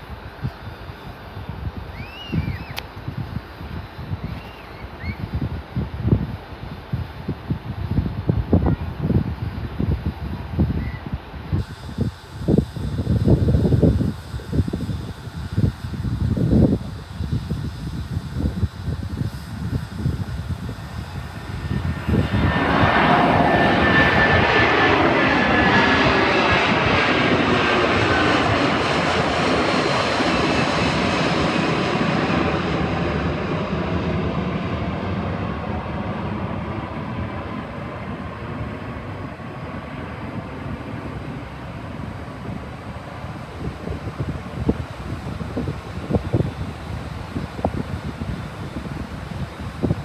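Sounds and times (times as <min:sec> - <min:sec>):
jet airliner passing: 0:00.1 - 0:50.0.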